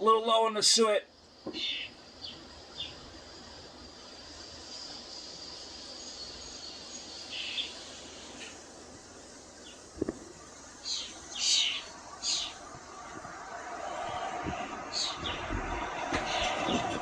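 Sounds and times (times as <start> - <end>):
wild birds calling: 1.5 - 3.1, 4.7 - 17.0.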